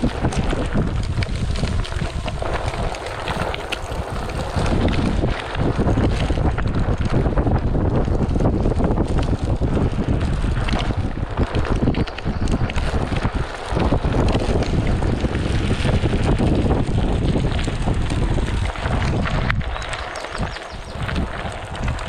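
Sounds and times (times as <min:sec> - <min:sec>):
tire rolling on dirt trail: 0:00.0 - 0:22.0
wind buffeting microphone: 0:00.0 - 0:22.0.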